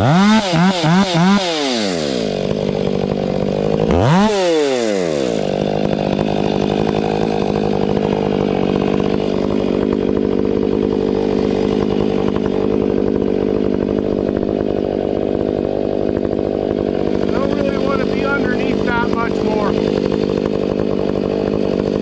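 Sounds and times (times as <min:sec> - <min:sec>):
chainsaw at full throttle: 0:00.0 - 0:22.0.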